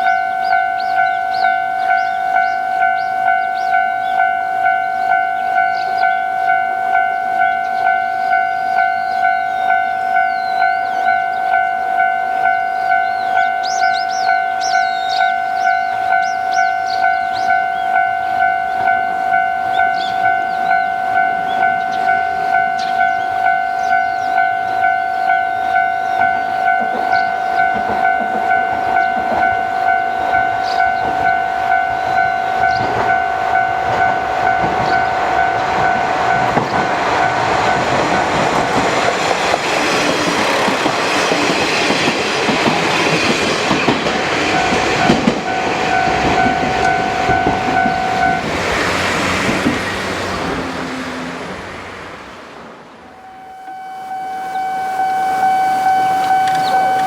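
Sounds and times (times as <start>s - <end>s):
level crossing warning bell ringing: 0.0s - 51.3s, 53.1s - 57.0s
train rumble and wheel clatter: 0.0s - 57.0s.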